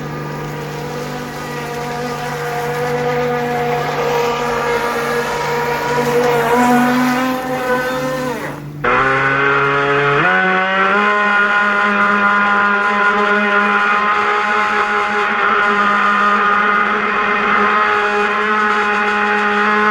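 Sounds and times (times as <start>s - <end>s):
electric boat motor whining: 0.0s - 19.9s.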